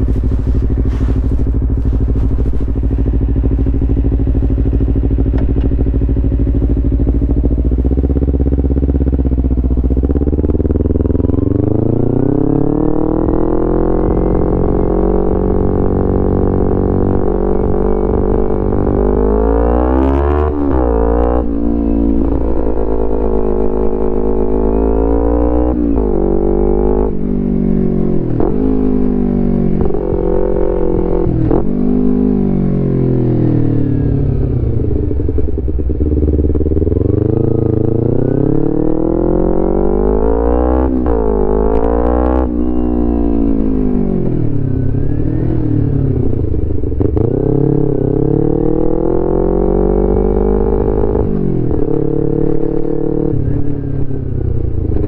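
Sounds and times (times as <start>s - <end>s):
motorcycle engine revving through gears: 0.0s - 55.0s.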